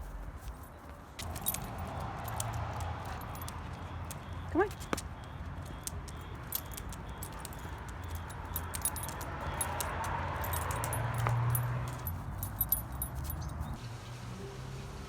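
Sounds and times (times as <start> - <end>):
dog collar tags jingling: 0.4 - 13.8.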